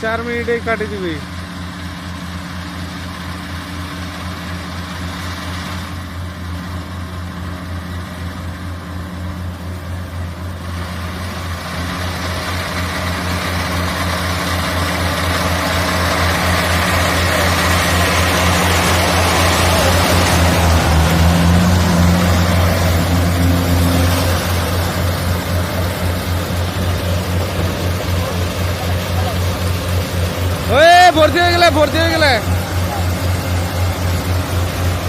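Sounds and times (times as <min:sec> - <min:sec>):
diesel engine throbbing: 0:00.0 - 0:35.0.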